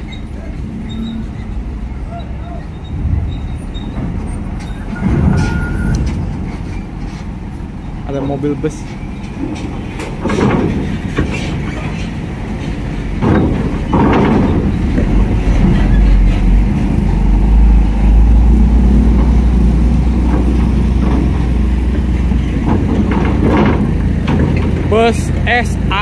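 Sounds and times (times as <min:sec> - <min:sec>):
bus engine rumble: 0:00.0 - 0:26.0
diesel vehicles on steel grating: 0:00.0 - 0:26.0.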